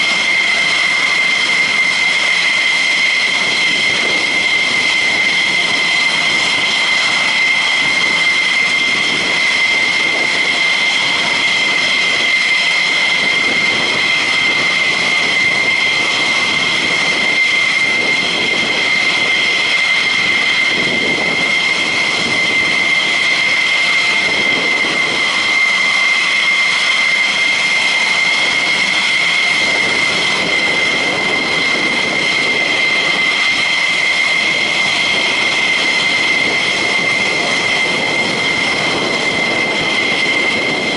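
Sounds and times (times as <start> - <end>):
jet engines idling whine: 0.0 - 40.9.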